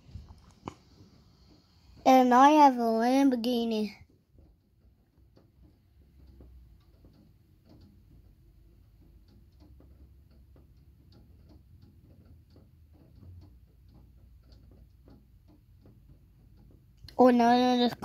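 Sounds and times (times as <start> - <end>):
faint ticks and taps: 0.0 - 18.0
low steady rumble: 0.0 - 18.0.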